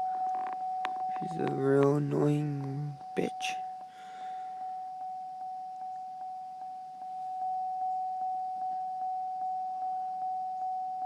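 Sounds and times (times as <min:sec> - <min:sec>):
dashboard warning chime dinging: 0:00.0 - 0:11.0.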